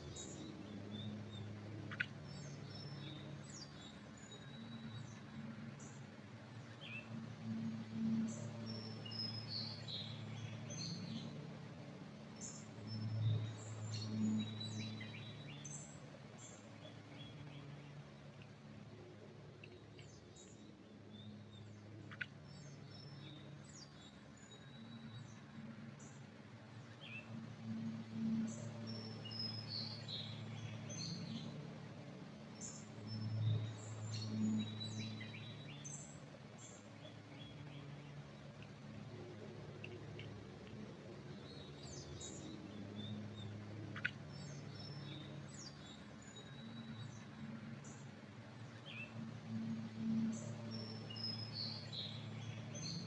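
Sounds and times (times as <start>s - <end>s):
songbirds chirping: 0.0s - 53.0s
steady low hum: 0.0s - 53.0s.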